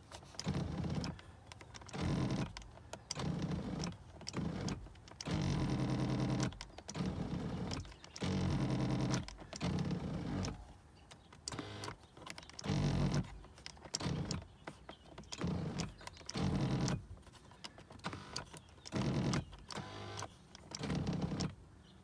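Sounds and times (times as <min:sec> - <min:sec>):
power seat motor whirring: 0:00.2 - 0:10.7, 0:11.4 - 0:21.6.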